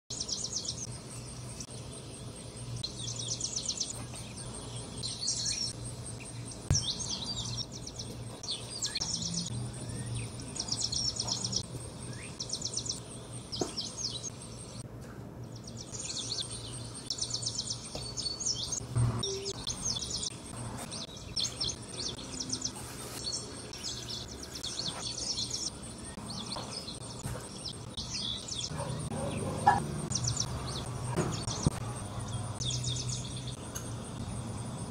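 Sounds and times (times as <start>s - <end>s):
birds chirping trills: 0.1s - 34.9s.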